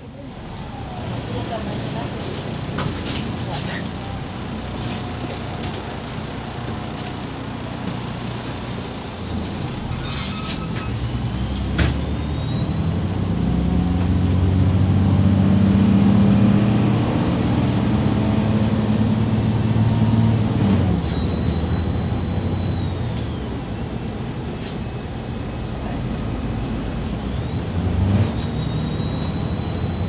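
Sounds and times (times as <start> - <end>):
bus engine whine: 0.0 - 30.0.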